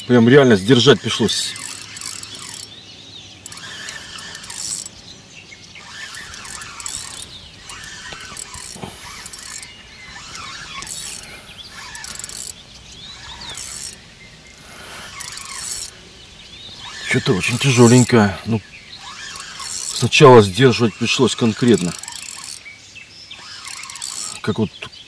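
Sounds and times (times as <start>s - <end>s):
fishing reel whirring and clicking: 0.0s - 24.6s.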